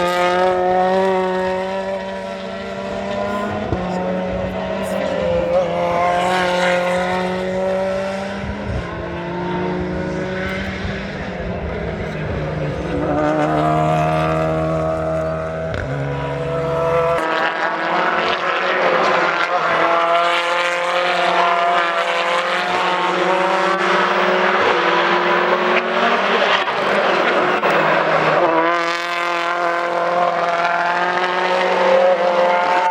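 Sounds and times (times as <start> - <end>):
race cars passing: 0.0 - 32.9.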